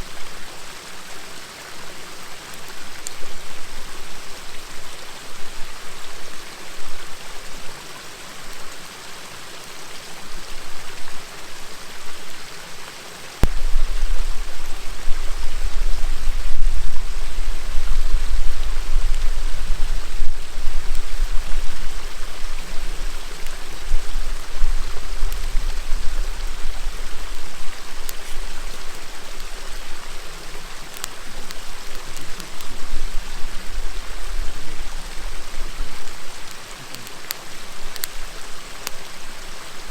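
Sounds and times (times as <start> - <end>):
campfire crackling: 0.0 - 39.9
river water murmuring: 0.0 - 39.9.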